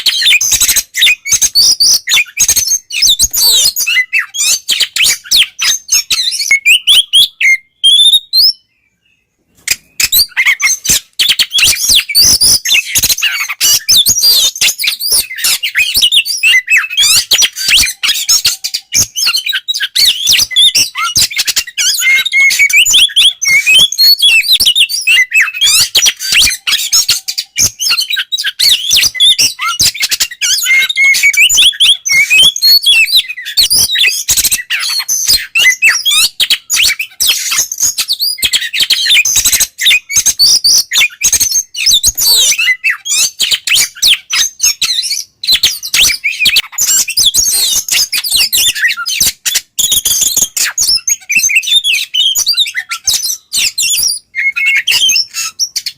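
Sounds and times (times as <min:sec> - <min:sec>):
bird singing chirps and whistles: 0:00.0 - 0:55.9.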